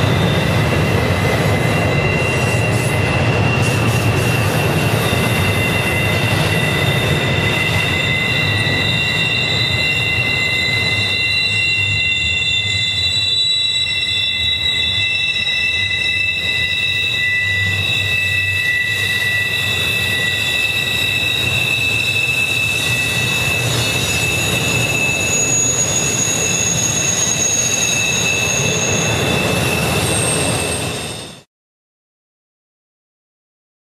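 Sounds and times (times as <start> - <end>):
low rumble of trains: 0.0 - 31.5
model trains squealing: 0.0 - 31.5.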